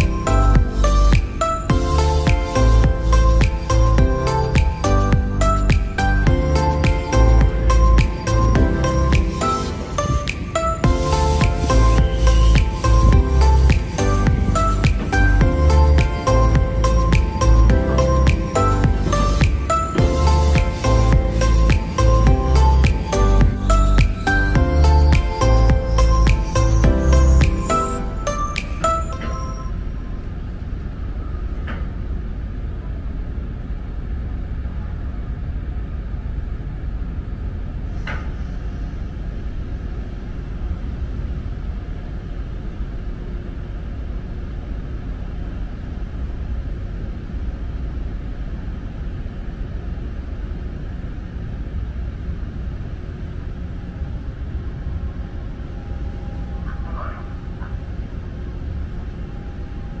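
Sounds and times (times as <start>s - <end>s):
ferry engine low rumble: 0.0s - 60.0s.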